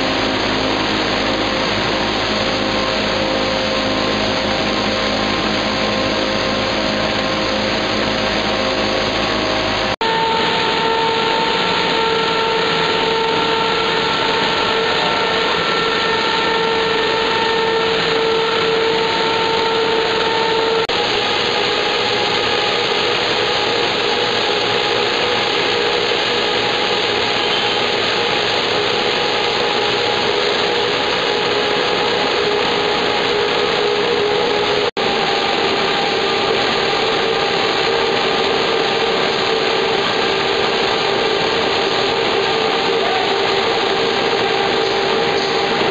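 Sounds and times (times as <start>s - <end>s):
machine noise: 0.0s - 45.9s
machine whine: 0.0s - 45.9s.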